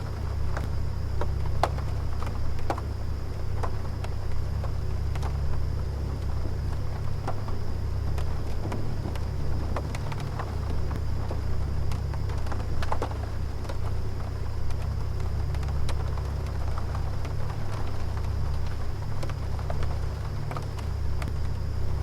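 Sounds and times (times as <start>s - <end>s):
air conditioner humming: 0.0s - 22.0s
rain ticks: 0.0s - 22.0s.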